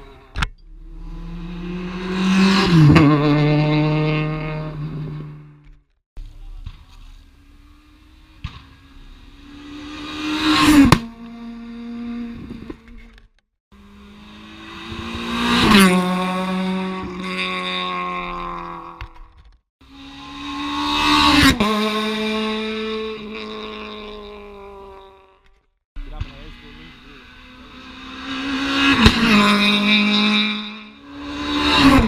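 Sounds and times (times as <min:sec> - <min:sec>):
rally cars passing at speed: 0:00.0 - 0:05.6, 0:06.6 - 0:13.2, 0:13.8 - 0:32.0.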